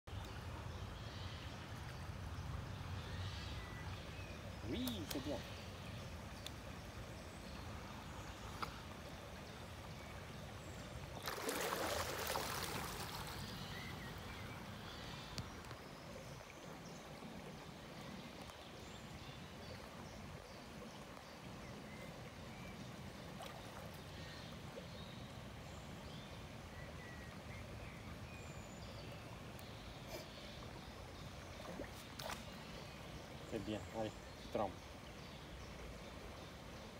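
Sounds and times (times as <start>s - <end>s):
faint water sounds: 0.0s - 36.9s.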